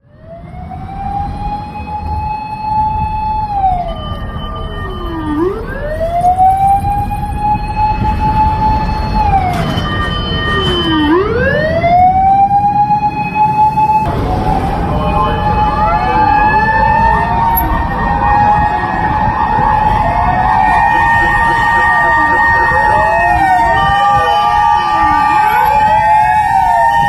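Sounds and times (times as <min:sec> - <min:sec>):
engine and road rumble: 0:00.0 - 0:27.0
fainter second siren: 0:00.0 - 0:27.0
fire engine siren wailing: 0:00.0 - 0:27.0.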